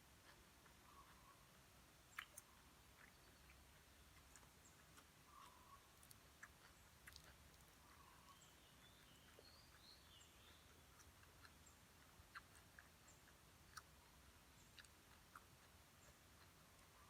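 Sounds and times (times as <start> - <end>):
soft chewing clicks: 0.0 - 17.0
faint chirps: 0.7 - 17.0.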